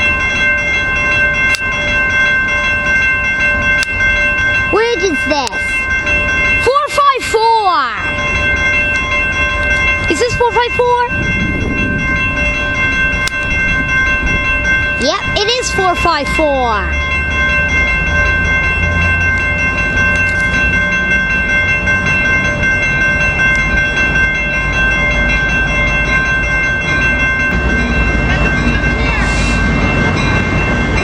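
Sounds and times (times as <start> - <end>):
diesel locomotive engine rumble: 0.0 - 31.0.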